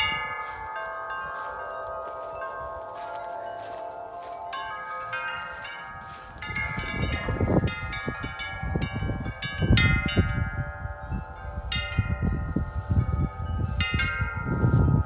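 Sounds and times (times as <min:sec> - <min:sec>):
wind buffeting microphone: 0:00.0 - 0:15.0
wind chimes jangling: 0:00.0 - 0:15.0.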